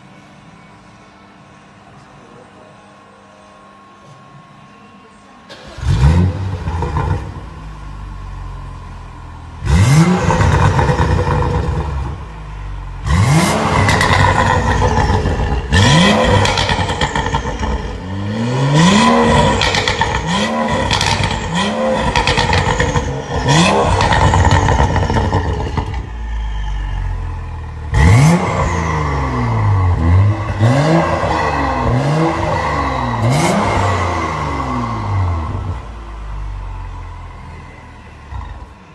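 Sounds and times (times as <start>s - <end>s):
car engine idling: 5.5s - 38.9s
car engine revving: 5.5s - 38.9s.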